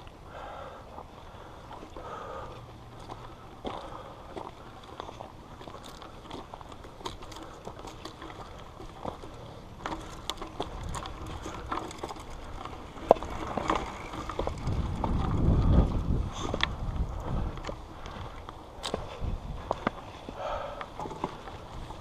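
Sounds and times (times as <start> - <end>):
bike clicks and rattles: 0.0 - 22.0
low wind rumble: 0.0 - 22.0.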